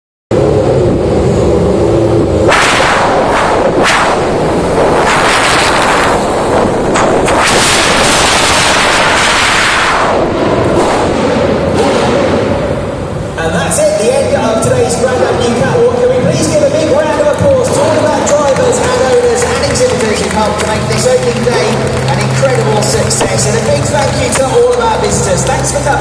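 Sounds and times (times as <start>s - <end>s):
racing car engine revving: 0.3s - 13.8s, 14.6s - 26.0s
exhaust cracks: 0.3s - 26.0s.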